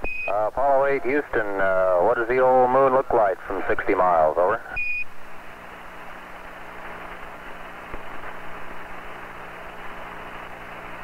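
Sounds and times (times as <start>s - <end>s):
radio hiss and hum: 0.0s - 11.0s.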